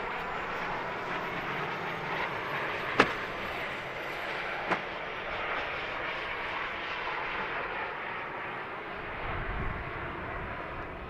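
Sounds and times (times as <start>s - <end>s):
small jet turbine hissing: 0.0s - 11.0s.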